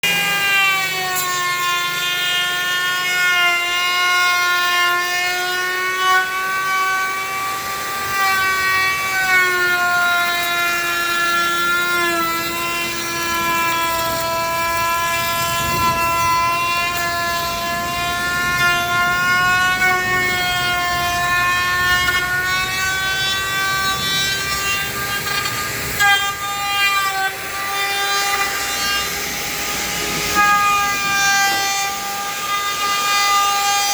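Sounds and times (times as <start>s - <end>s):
power tool motor whining: 0.0s - 33.9s.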